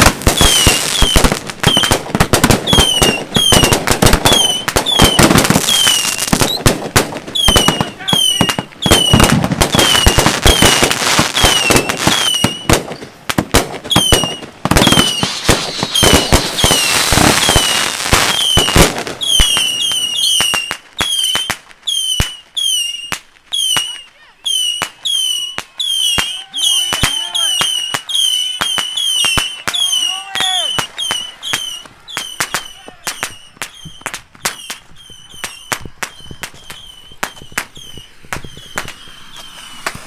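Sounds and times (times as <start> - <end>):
falling firework whistles: 0.0 - 40.0
fireworks shots and bursts: 0.0 - 40.0.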